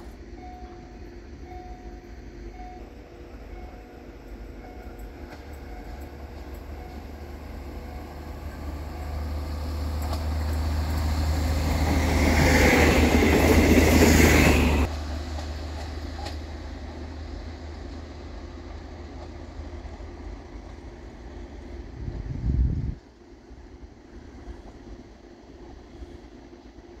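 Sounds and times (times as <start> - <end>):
diesel railcar passing: 0.0 - 27.0.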